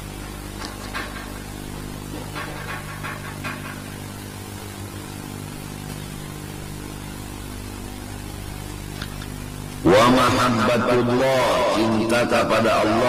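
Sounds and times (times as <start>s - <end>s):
low hum of held tones: 0.0s - 13.0s.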